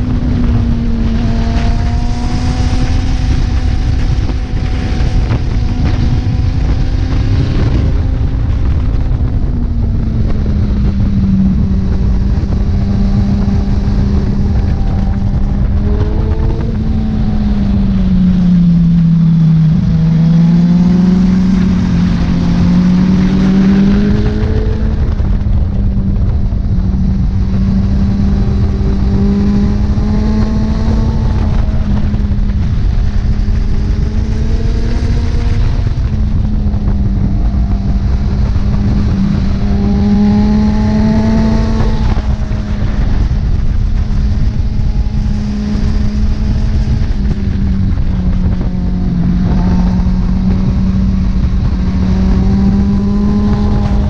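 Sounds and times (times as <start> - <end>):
motorcycle engine at high revs: 0.0 - 54.0
wind rush across helmet: 0.0 - 54.0.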